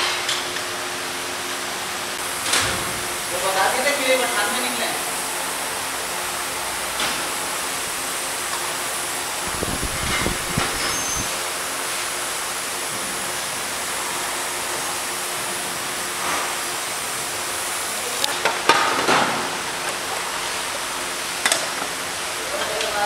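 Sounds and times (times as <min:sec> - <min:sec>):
workshop background hiss: 0:00.0 - 0:23.0.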